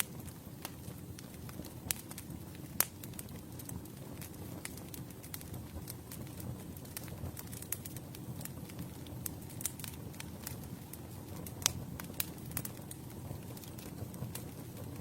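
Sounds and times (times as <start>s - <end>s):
burning wood crackles and pops: 0.0s - 15.0s
campfire flames rumbling: 0.0s - 15.0s.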